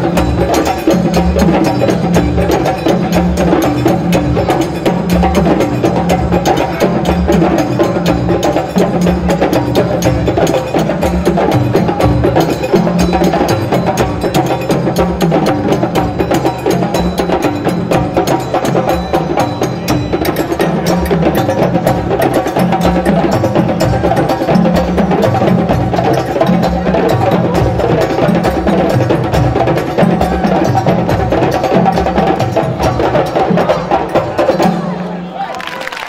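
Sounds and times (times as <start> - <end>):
hand drums playing dance rhythm: 0.0 - 36.0.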